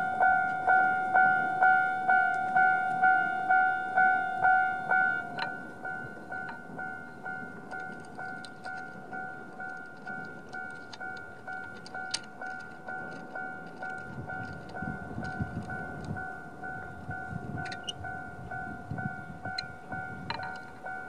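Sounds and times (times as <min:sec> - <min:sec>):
level crossing warning bell: 0:00.0 - 0:21.0.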